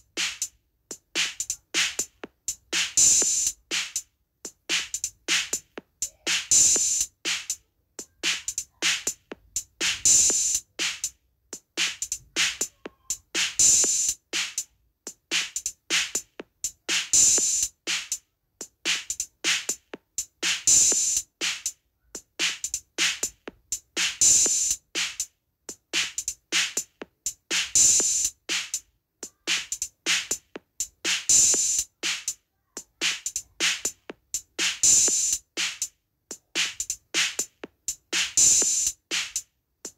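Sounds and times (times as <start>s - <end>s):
drum rhythm: 0.0s - 39.9s.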